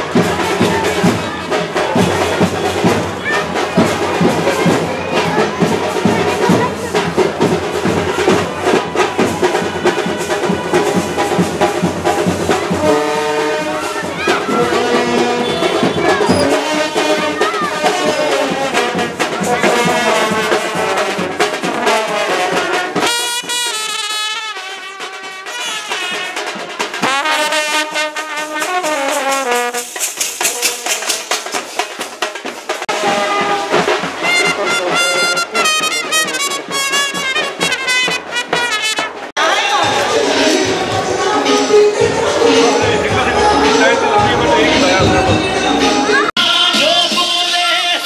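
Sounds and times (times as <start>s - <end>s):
brass band playing: 0.0s - 48.0s.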